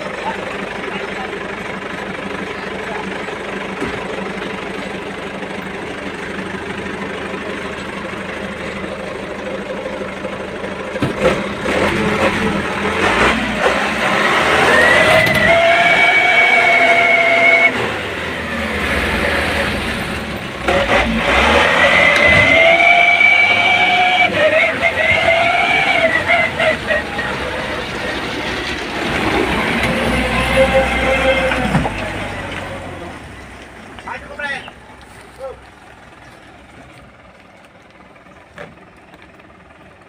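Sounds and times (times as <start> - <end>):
diesel truck engine revving: 0.0 - 40.0
high engine whine: 0.0 - 40.0.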